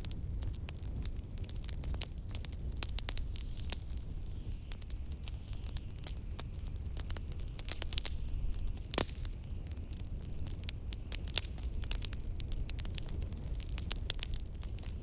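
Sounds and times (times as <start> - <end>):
low rumble of wind: 0.0 - 15.0
wood fire crackling and popping: 0.0 - 15.0.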